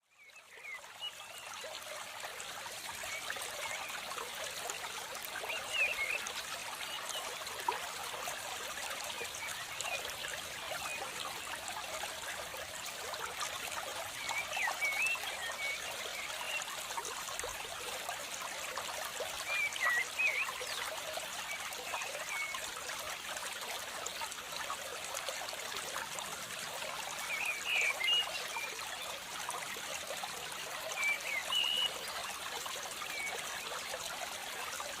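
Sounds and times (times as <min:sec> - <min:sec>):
water trickling: 0:00.2 - 0:35.0.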